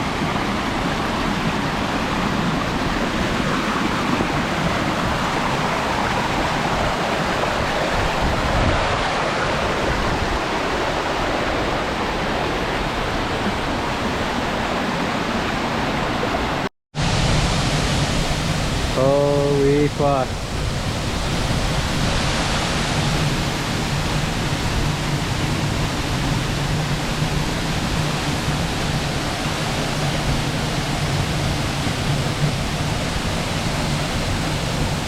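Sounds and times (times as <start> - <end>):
water rushing: 0.0 - 35.0.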